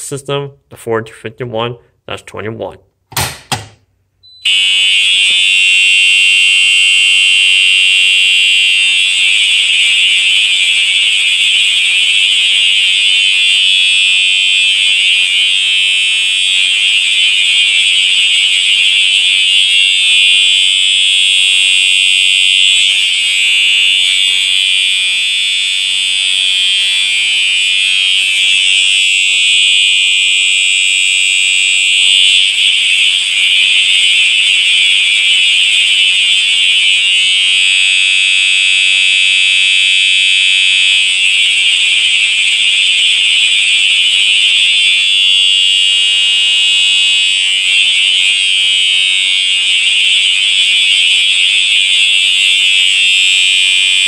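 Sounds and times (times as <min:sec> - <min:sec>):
fire alarm horn tone: 0:04.2 - 0:54.0.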